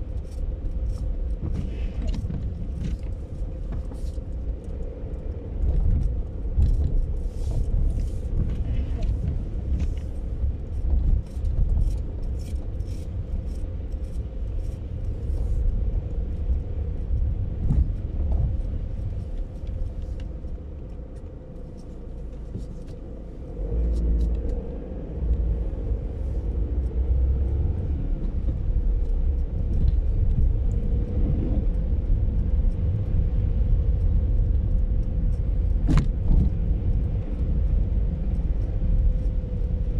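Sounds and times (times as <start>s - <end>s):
car rumbling on snow: 0.0s - 39.9s.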